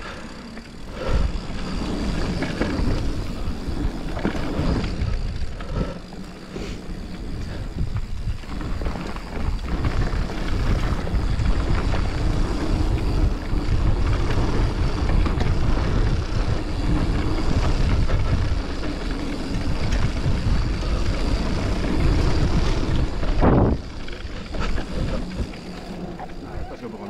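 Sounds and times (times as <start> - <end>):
bike tyres and frame rattling: 0.0 - 27.0
wind buffeting microphone: 0.8 - 27.0.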